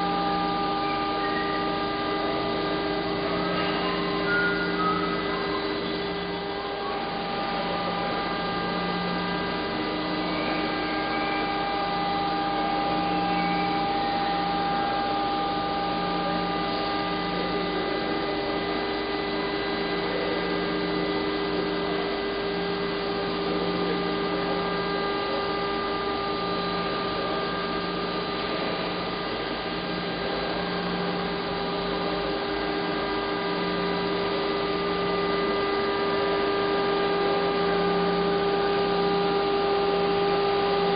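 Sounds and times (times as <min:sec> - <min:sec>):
assembly machinery hum: 0:00.0 - 0:40.9.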